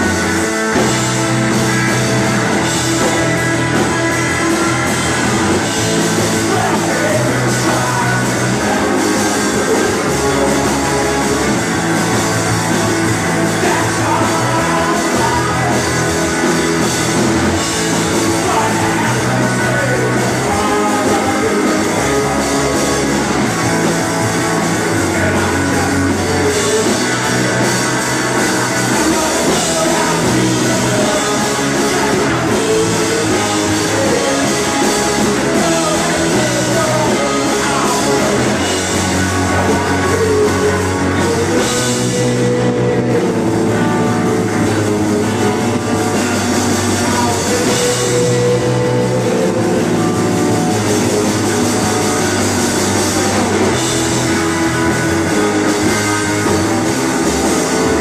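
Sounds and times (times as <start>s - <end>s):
electric bass: 0.0s - 58.0s
live rock band playing: 0.0s - 58.0s.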